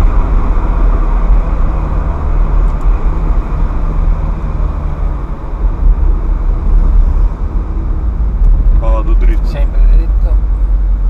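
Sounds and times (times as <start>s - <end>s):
car engine running: 0.0s - 11.0s
tyre and road noise: 0.0s - 11.0s.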